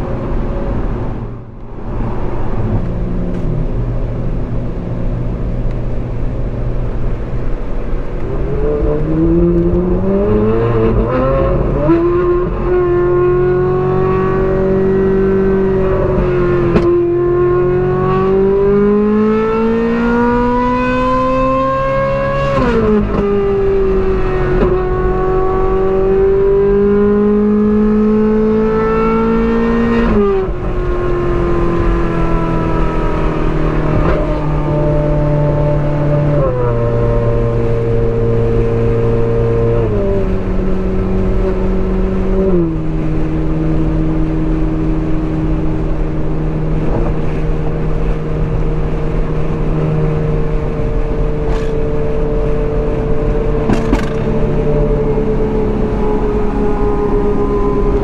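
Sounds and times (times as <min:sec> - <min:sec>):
sports car engine accelerating: 0:00.0 - 0:58.0.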